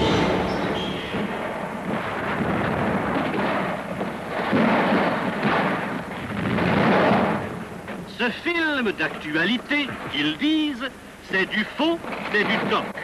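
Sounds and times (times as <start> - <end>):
explosions and gunfire rumble: 0.0 - 10.7, 11.3 - 13.0.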